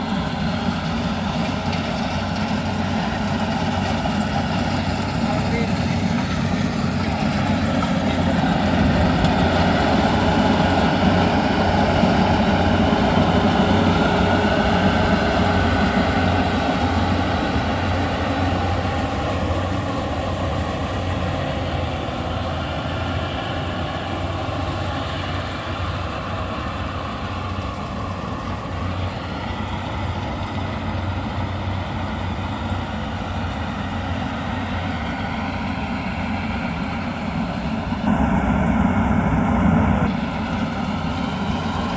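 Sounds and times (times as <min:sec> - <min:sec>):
combine harvester running: 0:00.0 - 0:41.9.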